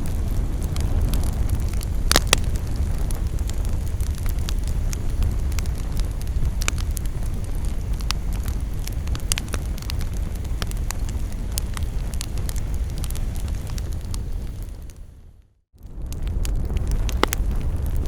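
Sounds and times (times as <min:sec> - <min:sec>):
campfire crackling and popping: 0:00.0 - 0:15.1, 0:15.8 - 0:18.0
steady low rumble: 0:00.0 - 0:15.2, 0:15.8 - 0:18.0.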